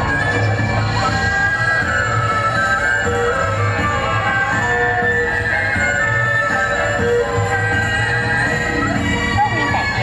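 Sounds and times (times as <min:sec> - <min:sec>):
dance music with held notes: 0:00.0 - 0:10.0.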